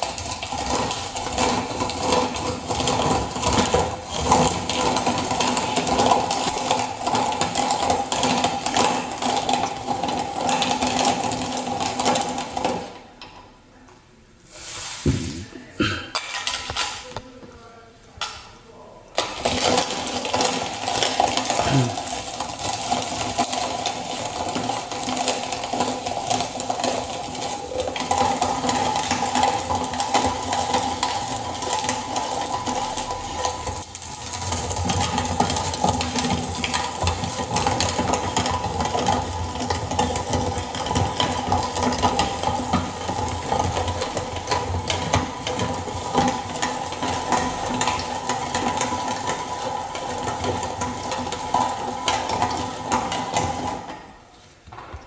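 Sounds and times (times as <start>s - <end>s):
hand-cranked grinder crushing chillies: 0.0s - 13.3s, 19.2s - 54.3s.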